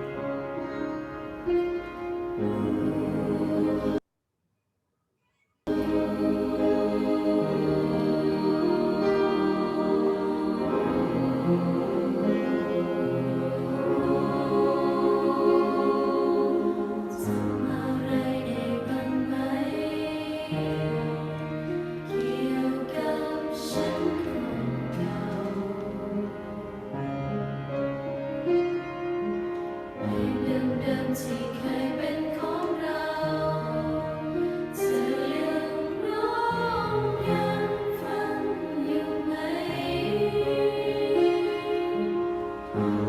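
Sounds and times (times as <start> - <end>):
choir singing chords: 0.0 - 4.0, 5.7 - 43.0.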